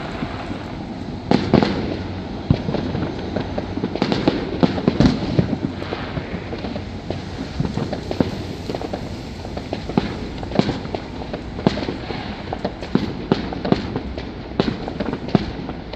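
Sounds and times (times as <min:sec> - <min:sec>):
low rumble: 0:00.0 - 0:15.0
fireworks bangs and crackles: 0:00.0 - 0:15.9.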